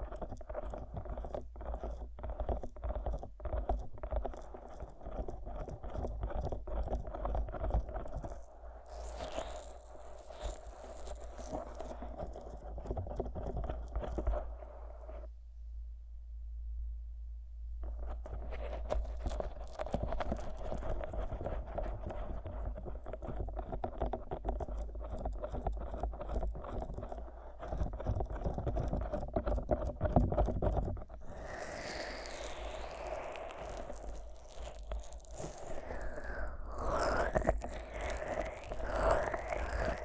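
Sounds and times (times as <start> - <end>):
fingers rubbing microphone: 0.0 - 15.3, 17.8 - 40.0.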